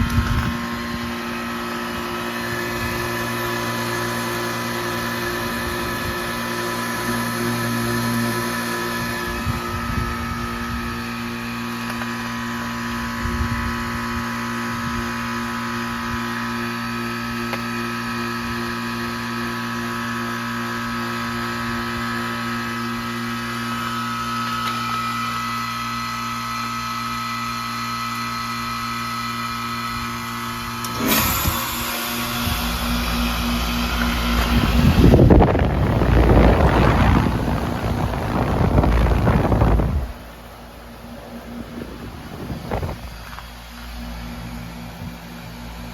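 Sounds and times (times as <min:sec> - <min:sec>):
heat pump compressor hum: 0:00.0 - 0:45.9
high-pitched whine: 0:00.0 - 0:45.9.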